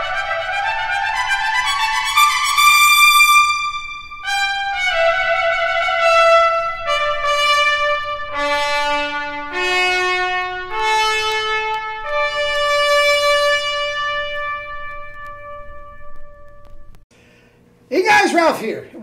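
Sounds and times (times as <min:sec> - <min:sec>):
solo trumpet playing: 0:00.0 - 0:17.0.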